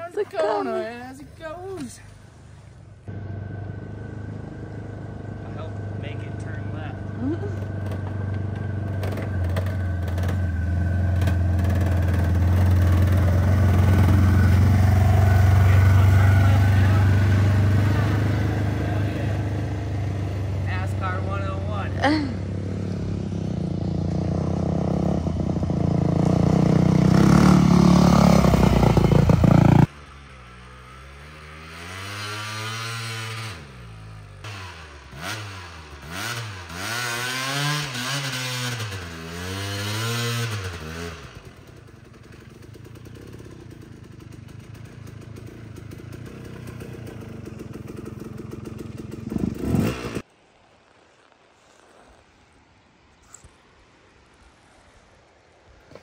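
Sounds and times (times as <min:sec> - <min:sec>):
dirt bike engine close up: 0:02.9 - 0:50.3
distant dirt bike revving: 0:03.0 - 0:50.2.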